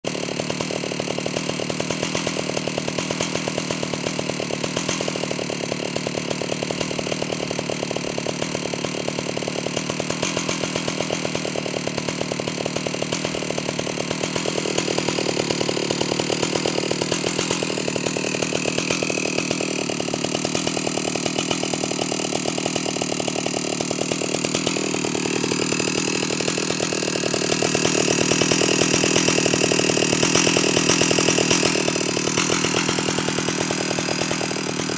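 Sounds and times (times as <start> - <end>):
chainsaw idling: 0.0 - 34.9.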